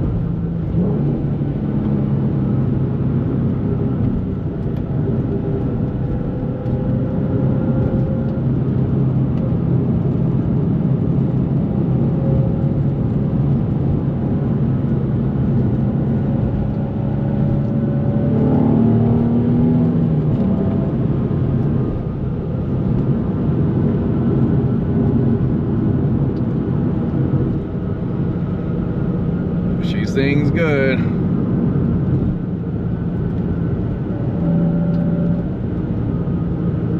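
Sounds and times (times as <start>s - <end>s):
car engine and exhaust while driving: 0.0s - 36.9s.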